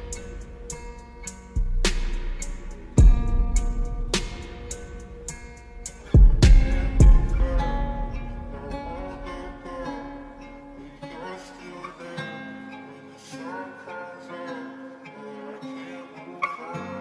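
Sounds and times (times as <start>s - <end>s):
plucked-string melody: 0.0s - 17.0s.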